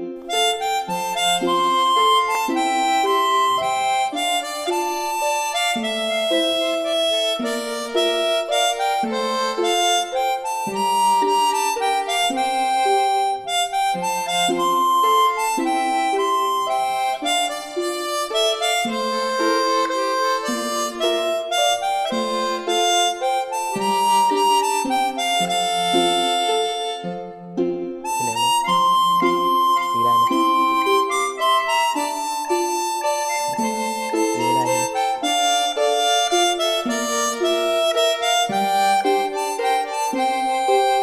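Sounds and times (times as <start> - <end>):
instrumental background music: 0.0 - 41.0.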